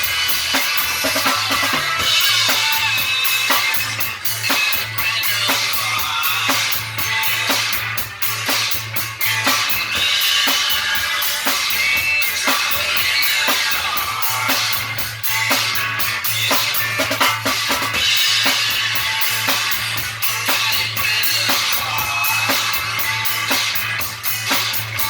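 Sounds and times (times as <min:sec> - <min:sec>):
bass line: 0:00.0 - 0:25.0
drum kit beat: 0:00.0 - 0:25.0
rock band playing: 0:00.0 - 0:25.0.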